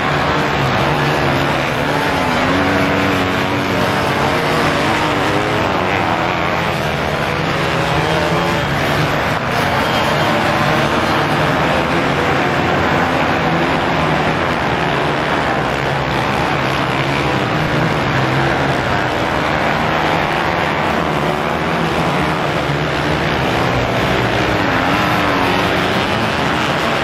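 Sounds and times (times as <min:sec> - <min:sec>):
dirt bike engines racing: 0:00.0 - 0:27.0.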